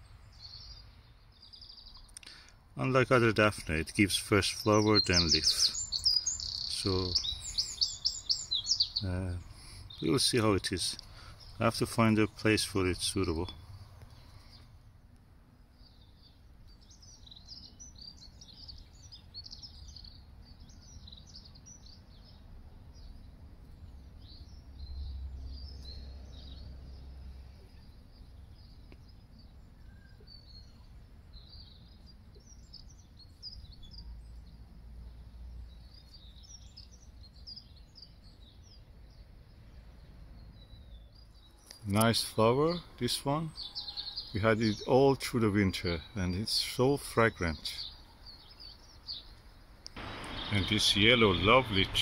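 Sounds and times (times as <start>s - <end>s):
small songbirds chirping: 0.0s - 52.0s.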